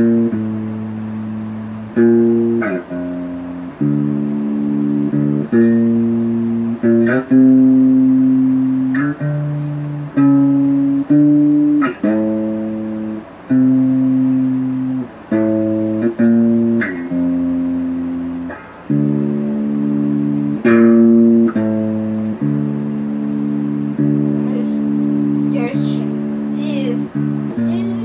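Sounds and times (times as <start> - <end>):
electric guitar chords strummed: 0.0 - 28.0.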